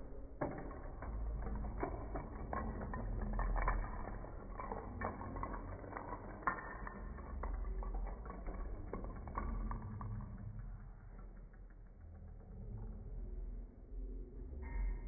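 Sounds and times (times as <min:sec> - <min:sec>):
dominoes toppling and clacking: 0:00.0 - 0:12.4.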